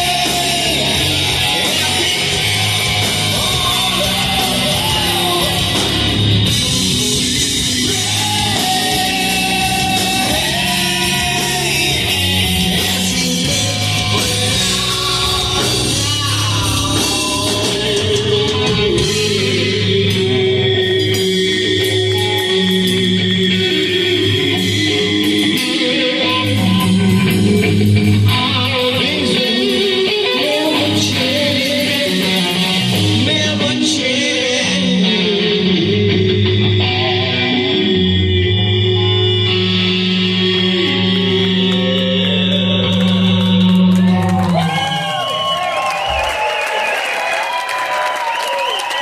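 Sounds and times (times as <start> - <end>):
person singing: 0.0 - 45.0
bass guitar: 0.0 - 47.5
drums: 0.0 - 49.0
electric guitars: 0.0 - 49.0.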